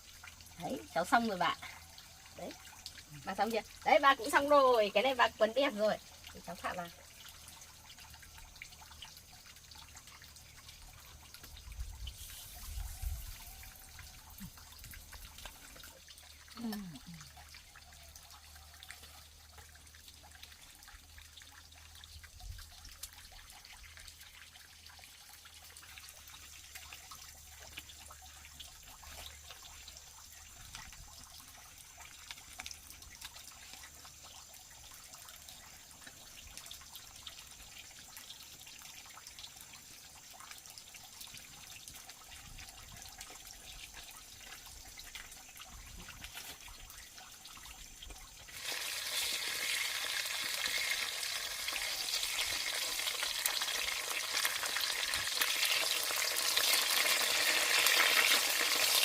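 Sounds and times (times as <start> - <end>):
food frying in oil: 0.0 - 59.0.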